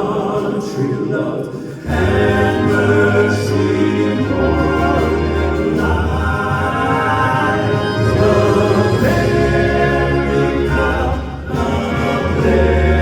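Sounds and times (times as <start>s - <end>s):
male vocal quartet singing: 0.0s - 13.0s
orchestral backing: 1.9s - 13.0s.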